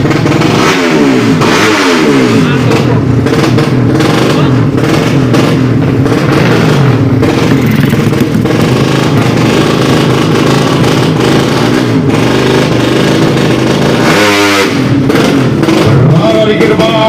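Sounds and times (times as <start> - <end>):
motorcycle engines revving hard: 0.0 - 17.0.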